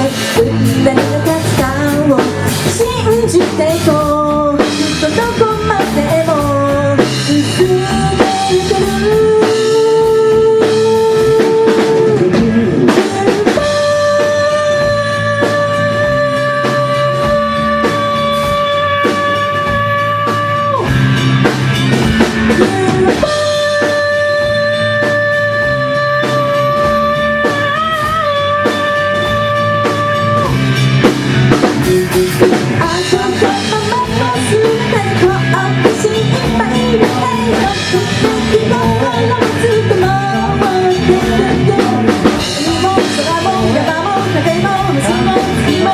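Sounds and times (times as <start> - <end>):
drum kit beat: 0.0 - 45.9
rock band playing live: 0.0 - 45.9.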